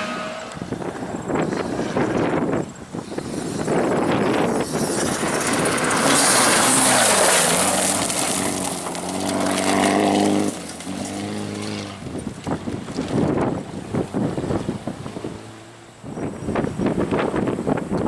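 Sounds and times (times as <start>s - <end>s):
tyres on gravel: 0.0s - 15.0s
rally car engine accelerating: 0.0s - 16.3s.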